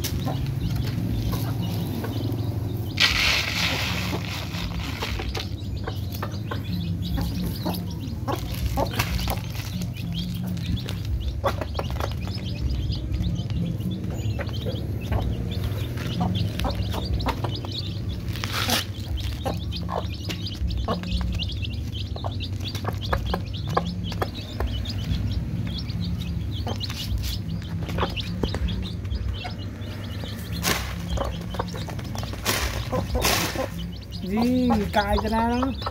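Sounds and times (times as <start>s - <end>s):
chicks peeping: 0.0s - 35.9s.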